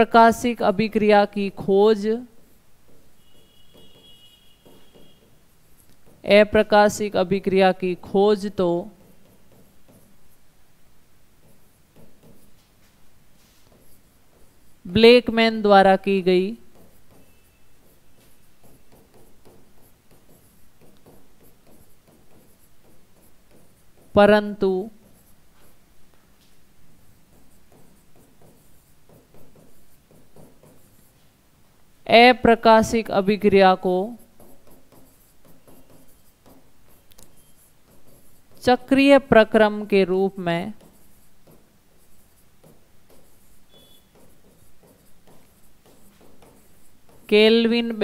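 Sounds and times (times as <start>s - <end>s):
marker pen writing on whiteboard: 0.0s - 48.0s.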